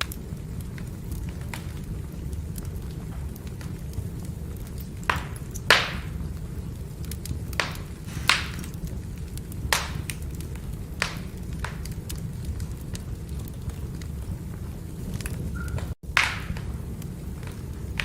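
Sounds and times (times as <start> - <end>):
firewood crackling: 0.0 - 18.0
sharp fire pops: 0.0 - 18.0.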